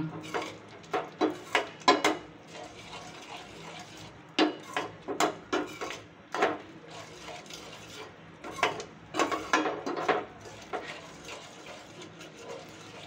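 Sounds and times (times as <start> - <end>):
metal spoon scraping and clacking pan: 0.1 - 13.0.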